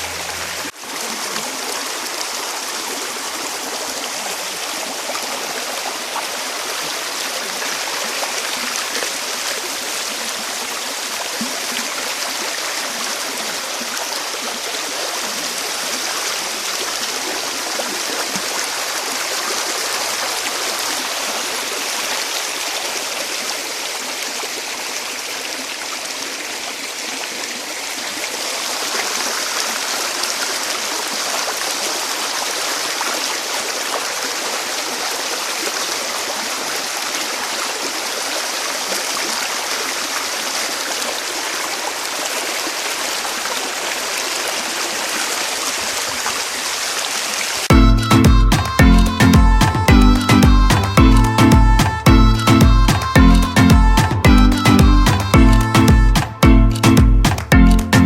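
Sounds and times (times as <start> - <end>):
water flowing over rocks: 0.0 - 58.0.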